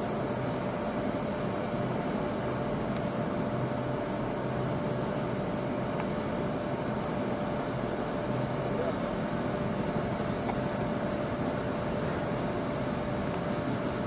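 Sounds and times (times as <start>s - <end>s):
electric locomotive hum and whine: 0.0s - 14.0s.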